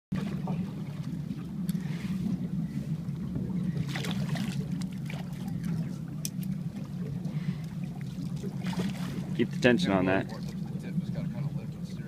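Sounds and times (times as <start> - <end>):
outboard motor idling: 0.1 - 12.0.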